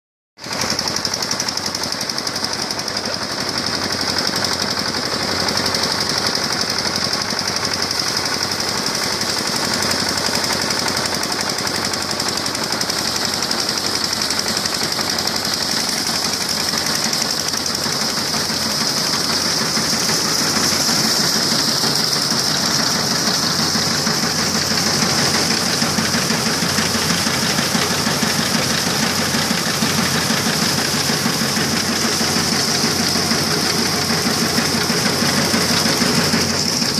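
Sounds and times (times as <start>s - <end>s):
thresher knocking beat: 0.5s - 36.9s.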